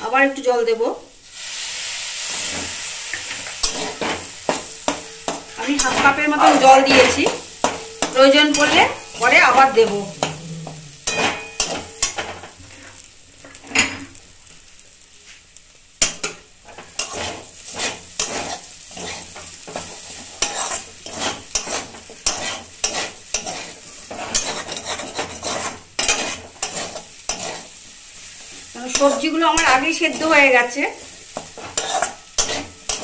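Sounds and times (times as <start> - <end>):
faint sizzle: 0.0 - 33.0
metal spatula scraping pan: 2.3 - 14.2, 16.0 - 27.8, 28.9 - 33.0.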